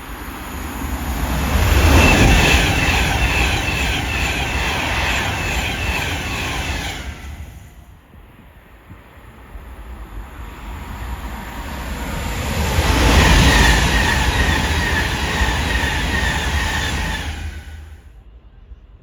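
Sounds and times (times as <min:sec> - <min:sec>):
train running past: 0:00.0 - 0:19.0.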